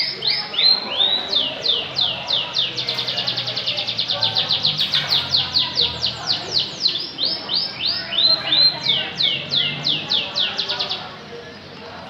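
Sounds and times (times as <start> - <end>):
canary singing: 0.0 - 11.7.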